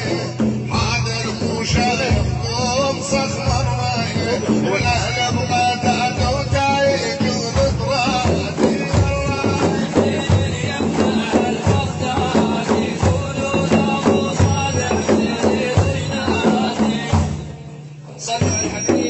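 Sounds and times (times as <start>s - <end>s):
hand percussion beat: 0.0s - 19.0s
religious praise music: 0.0s - 19.0s.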